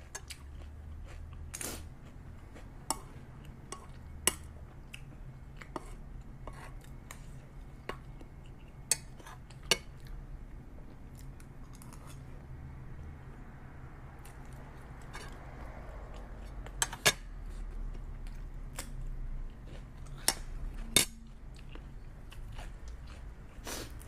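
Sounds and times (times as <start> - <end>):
chewing: 0.0 - 10.2, 14.2 - 24.0
low steady hum: 0.0 - 24.0.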